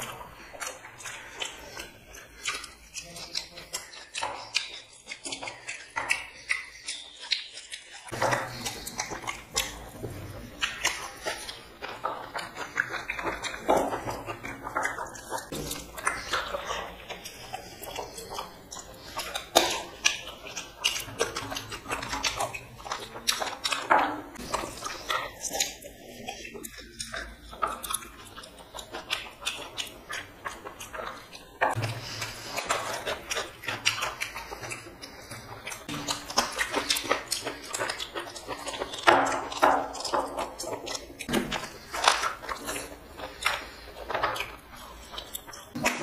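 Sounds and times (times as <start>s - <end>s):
chewing and lip smacking: 0.0s - 46.0s.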